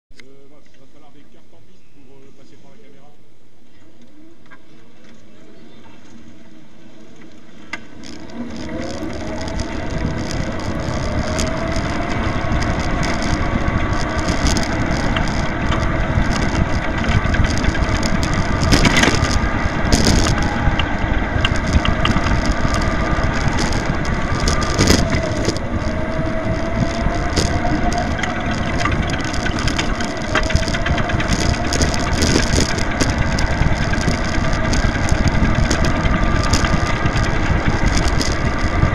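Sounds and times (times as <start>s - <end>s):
go-kart rattling rumble: 4.4s - 38.9s
electric motor whine: 5.4s - 38.9s.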